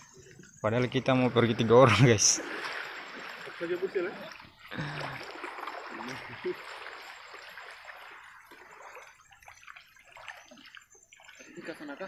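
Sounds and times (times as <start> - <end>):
person wading in water: 0.0 - 12.0
water sloshing around boat hull: 0.0 - 12.0.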